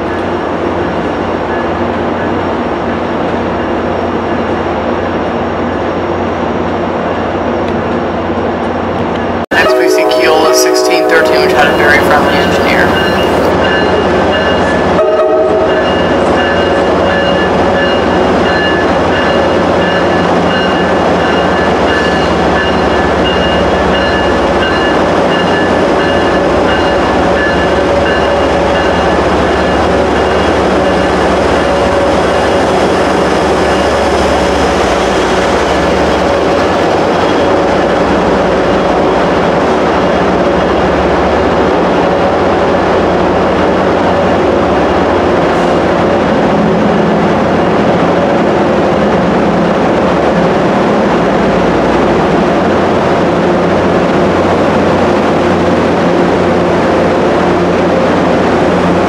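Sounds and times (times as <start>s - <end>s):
diesel locomotive running: 0.0s - 59.0s.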